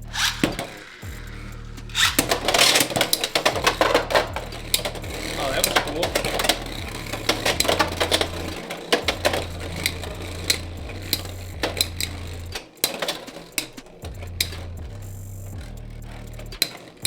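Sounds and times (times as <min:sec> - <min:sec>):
spinning tops clacking: 0:00.0 - 0:17.0.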